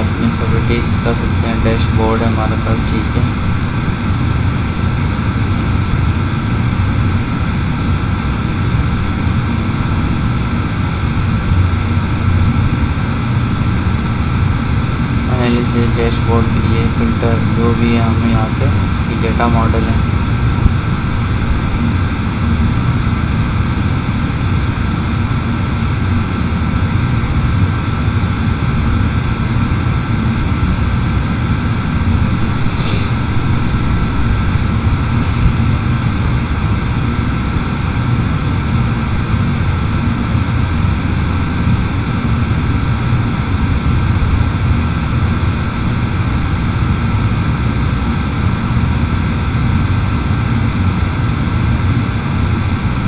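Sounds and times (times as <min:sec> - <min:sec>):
machine hum with high whines: 0:00.0 - 0:53.0.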